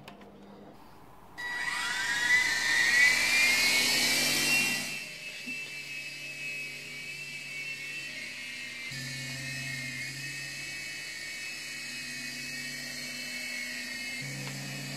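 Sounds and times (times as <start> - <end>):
toy helicopter motor whine: 1.4 - 14.9.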